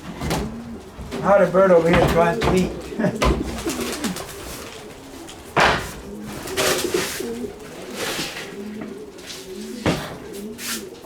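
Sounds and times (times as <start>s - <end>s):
noisy rustles: 0.0s - 11.0s
pigeons cooing: 0.0s - 11.0s.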